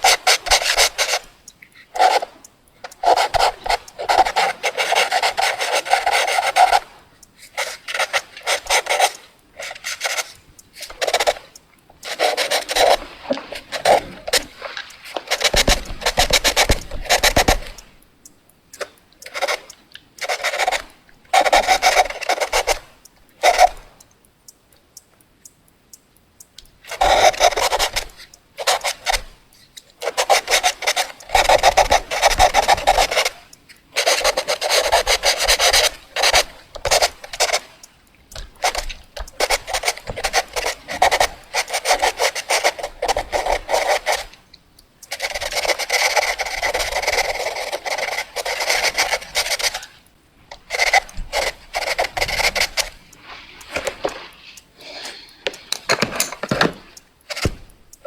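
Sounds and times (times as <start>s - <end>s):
drawing tool scratching: 0.0s - 17.9s, 18.8s - 23.8s, 26.9s - 29.3s, 30.0s - 44.4s, 45.1s - 50.0s, 50.6s - 58.0s.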